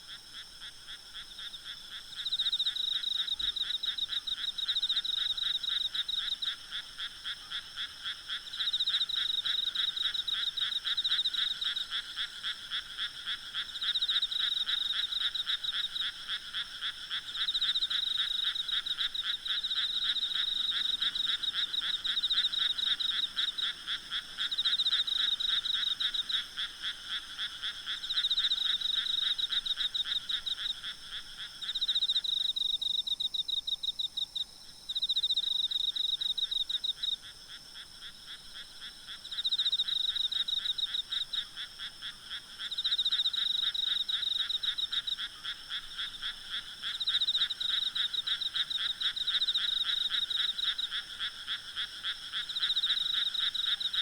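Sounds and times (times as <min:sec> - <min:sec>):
frogs croaking in chorus: 0:00.0 - 0:54.0.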